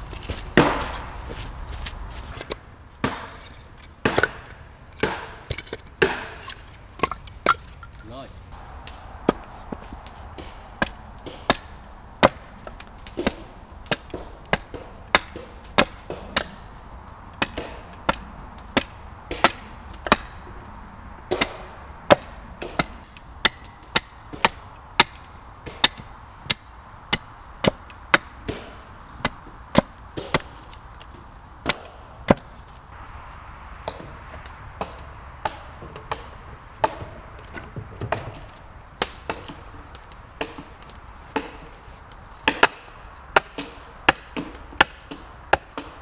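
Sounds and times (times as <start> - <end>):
hatchet chopping wood: 0.2 - 1.1, 2.4 - 7.8, 8.6 - 16.7, 17.4 - 20.5, 21.3 - 32.5, 33.8 - 41.8, 42.4 - 46.0.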